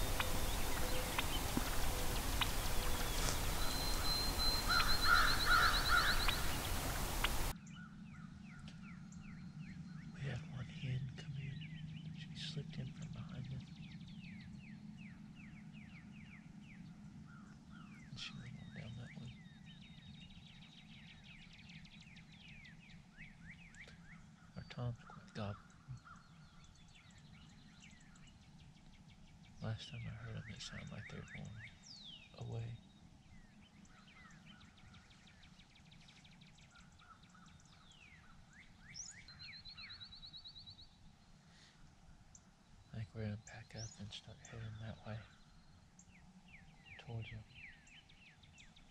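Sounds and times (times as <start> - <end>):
low outdoor background noise: 0.0 - 48.9
small birds chirping: 0.0 - 48.9
songbirds calling: 0.0 - 48.9.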